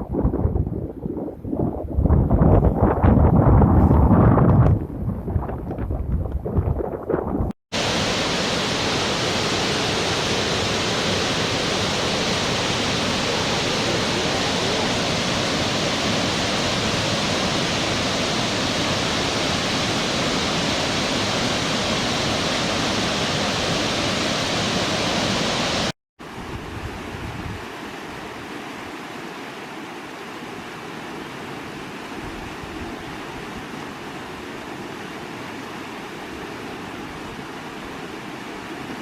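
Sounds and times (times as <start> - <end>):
falling water rushing: 7.7 - 39.0.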